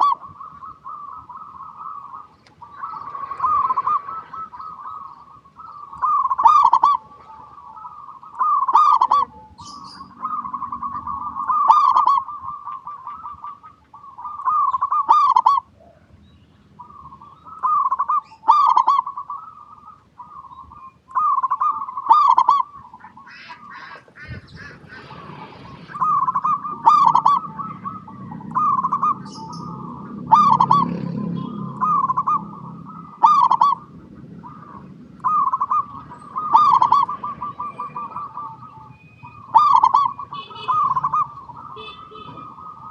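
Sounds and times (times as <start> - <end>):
dove cooing: 0.0 - 16.2, 16.8 - 42.9.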